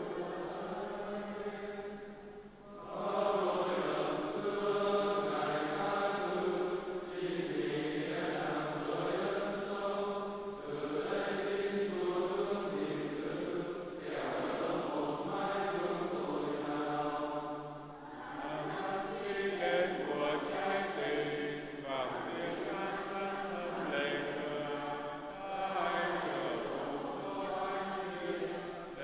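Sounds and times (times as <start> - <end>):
voices chanting a prayer: 0.0 - 29.0.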